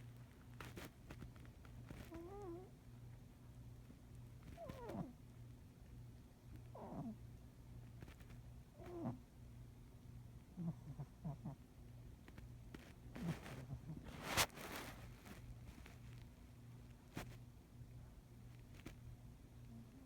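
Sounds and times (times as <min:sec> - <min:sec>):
faint low rumble: 0:00.0 - 0:20.0.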